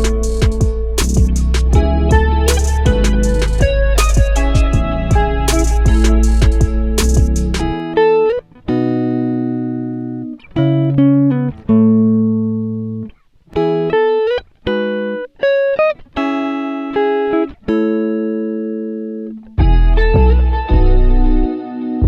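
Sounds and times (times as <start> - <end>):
plucked guitar music: 0.0 - 22.0.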